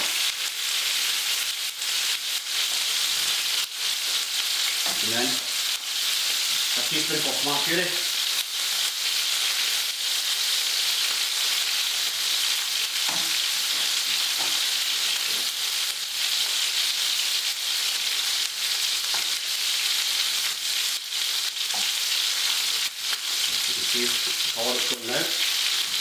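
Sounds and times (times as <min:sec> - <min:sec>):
sauce sizzling in a frying pan: 0:00.0 - 0:26.0.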